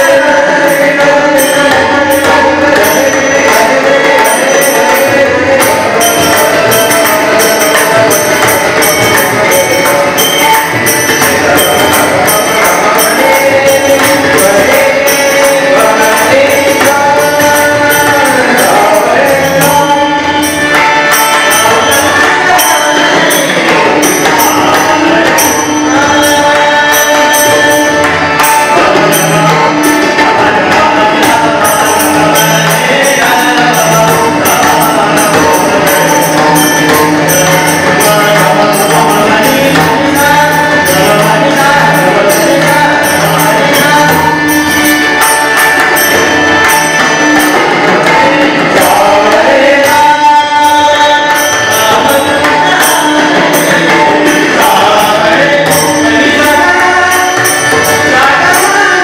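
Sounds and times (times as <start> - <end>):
hand drums: 0.0 - 59.0
harmoniums: 0.0 - 59.0
jingling percussion: 0.0 - 59.0
man singing: 0.0 - 59.0.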